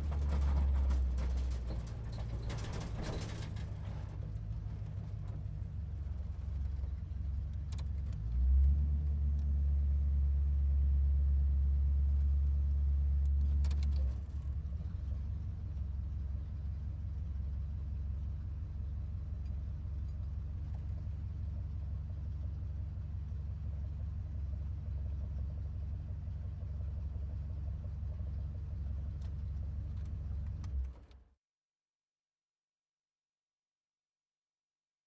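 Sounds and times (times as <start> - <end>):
car engine idling and revving: 0.0 - 31.1.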